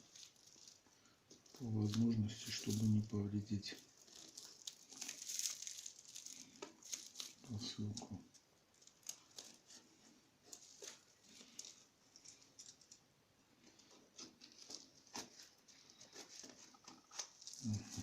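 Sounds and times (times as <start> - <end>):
plastic packaging rustling: 0.0 - 13.0, 13.6 - 18.0.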